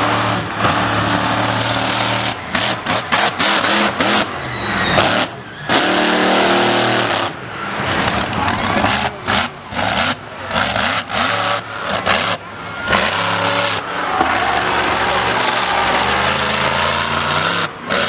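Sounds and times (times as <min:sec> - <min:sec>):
exhaust and tyre noise: 0:00.0 - 0:18.0
vehicle engine revving: 0:00.0 - 0:18.0.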